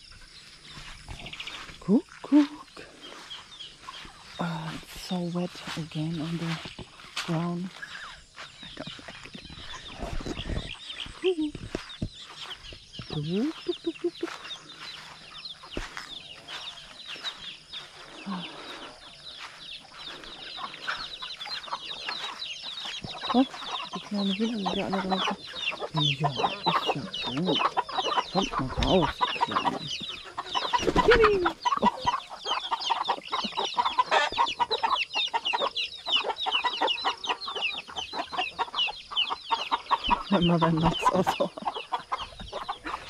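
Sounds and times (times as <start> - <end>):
chickens clucking: 0.0 - 43.0
chicks peeping: 0.0 - 43.0.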